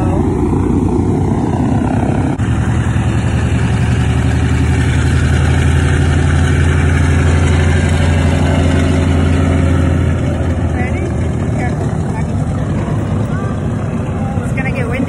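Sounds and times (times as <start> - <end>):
aircraft radial engines droning: 0.0 - 15.0.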